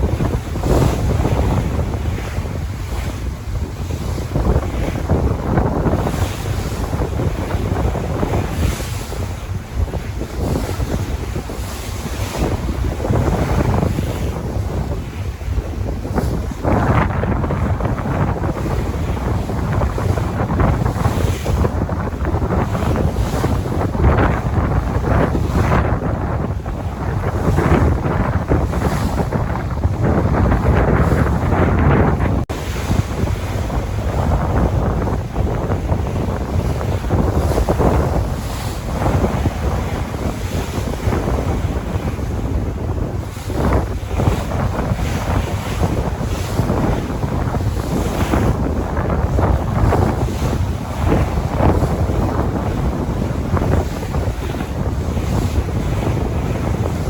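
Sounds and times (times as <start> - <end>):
sea waves splashing: 0.0 - 57.0
wind rumbling on microphone: 0.0 - 57.0.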